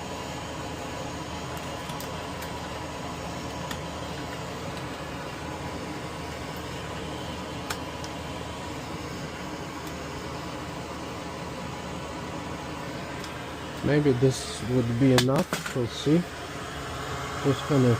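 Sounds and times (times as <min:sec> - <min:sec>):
fan whirring: 0:00.0 - 0:17.9.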